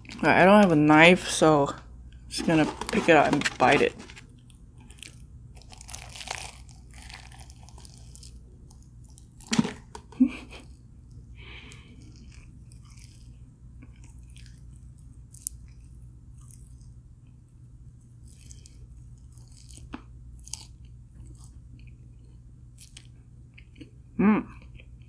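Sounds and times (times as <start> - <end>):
person chewing crispy fried chicken: 4.0 - 9.6, 10.4 - 25.0.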